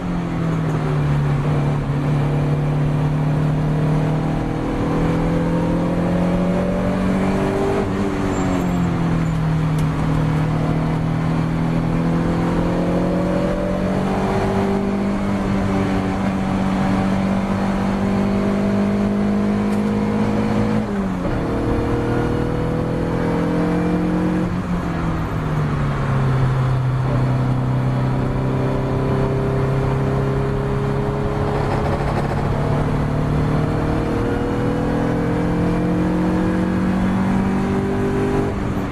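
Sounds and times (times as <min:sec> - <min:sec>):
race car engine under load: 0:00.0 - 0:38.9.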